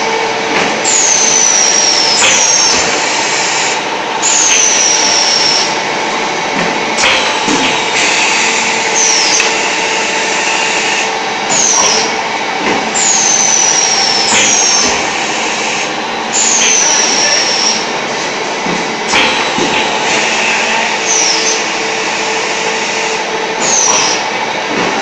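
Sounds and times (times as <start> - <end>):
tile making machine running: 0.0 - 25.0.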